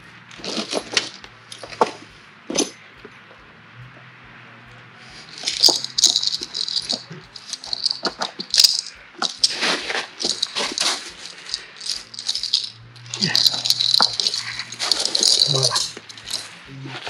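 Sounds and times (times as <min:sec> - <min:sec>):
snow chains rattling and clinking: 0:00.0 - 0:03.2, 0:05.0 - 0:17.0.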